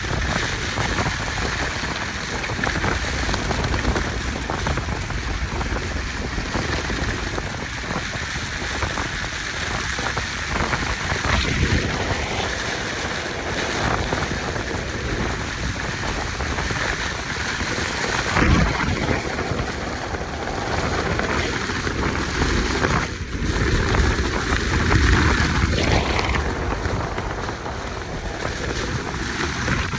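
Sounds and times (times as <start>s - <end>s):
heavy rain: 0.0s - 29.9s
wind gusts buffeting microphone: 0.0s - 29.9s.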